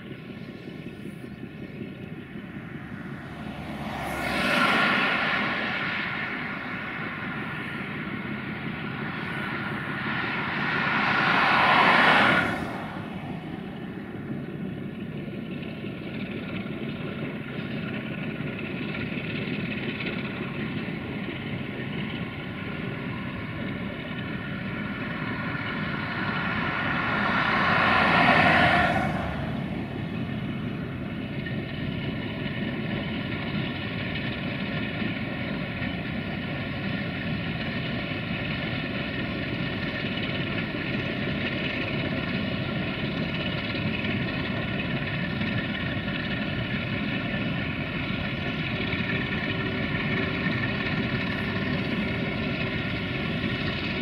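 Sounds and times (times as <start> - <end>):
diesel locomotive engine droning: 0.0 - 54.0.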